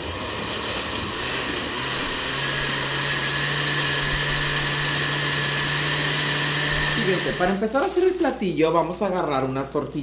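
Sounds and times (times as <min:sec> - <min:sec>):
blender motor grinding: 0:00.0 - 0:08.5.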